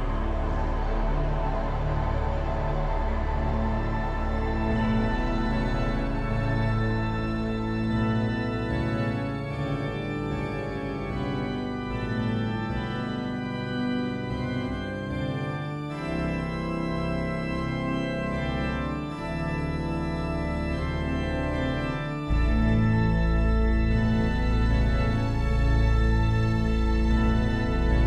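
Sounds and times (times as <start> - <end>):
slow organ-like keyboard chords: 0.0 - 28.0.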